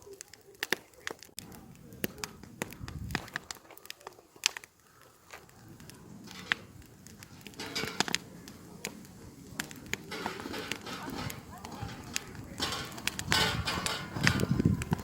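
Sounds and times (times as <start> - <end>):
campfire crackling and popping: 0.0 - 15.0
low hiss of flames: 0.0 - 15.0.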